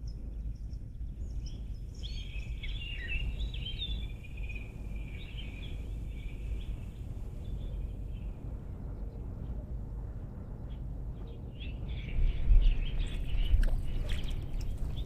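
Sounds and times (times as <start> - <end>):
songbird chattering song: 0.0 - 9.3, 10.7 - 15.0
low outdoor rumble: 0.0 - 15.0.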